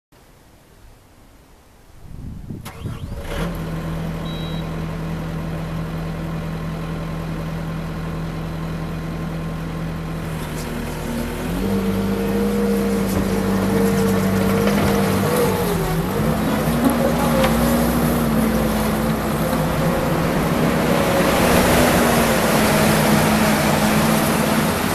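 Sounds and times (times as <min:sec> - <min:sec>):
diesel engine starting and idling: 0:02.5 - 0:24.9.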